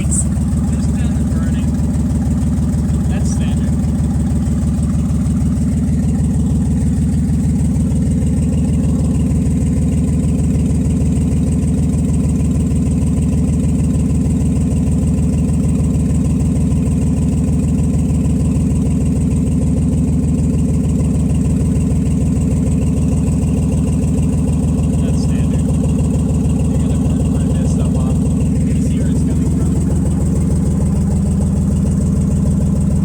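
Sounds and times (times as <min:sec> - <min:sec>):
car engine idling: 0:00.0 - 0:33.0
exhaust leaks: 0:00.0 - 0:33.0.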